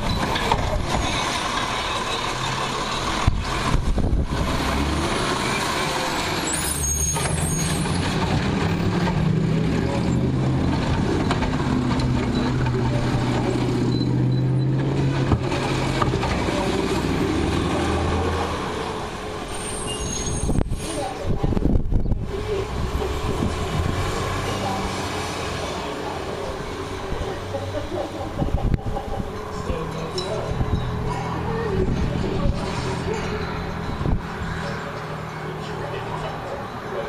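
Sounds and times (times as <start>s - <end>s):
large engine humming: 0.0s - 37.0s.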